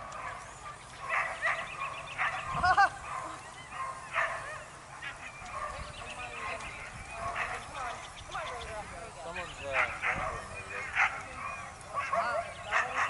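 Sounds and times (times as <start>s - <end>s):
dogs yipping and barking: 0.0s - 13.0s.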